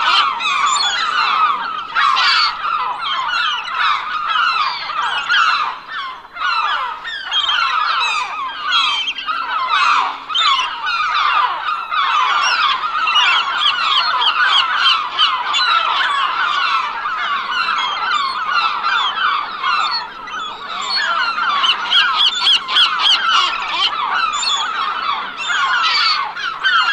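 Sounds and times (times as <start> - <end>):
seagulls squawking: 0.0 - 26.9.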